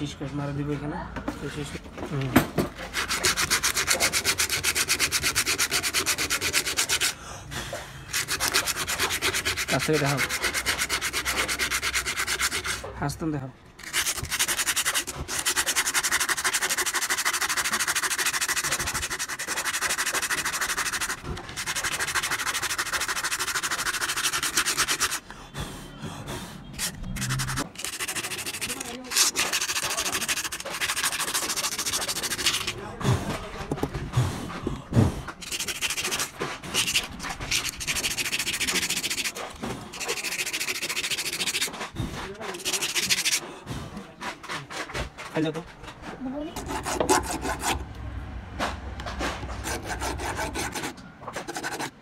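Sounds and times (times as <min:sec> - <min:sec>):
abrasive paper scratching metal: 0:02.8 - 0:07.2, 0:08.1 - 0:12.9, 0:13.8 - 0:25.3, 0:26.7 - 0:33.7, 0:35.3 - 0:43.5, 0:44.1 - 0:47.8, 0:49.1 - 0:52.0.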